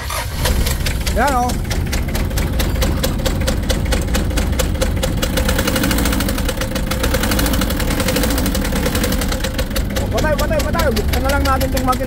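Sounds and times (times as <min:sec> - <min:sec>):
diesel engine running: 0:00.0 - 0:12.0
rapid engine knock: 0:00.0 - 0:12.0.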